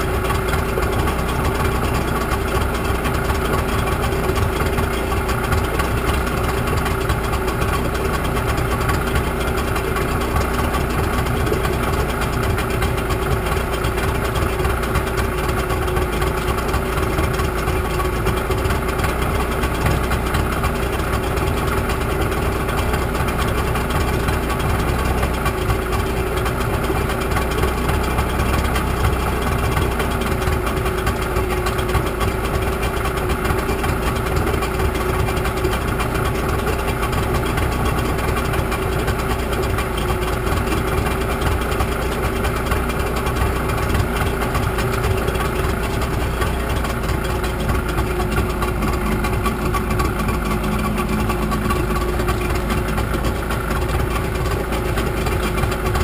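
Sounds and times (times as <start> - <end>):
outboard engine idling: 0.0 - 56.0.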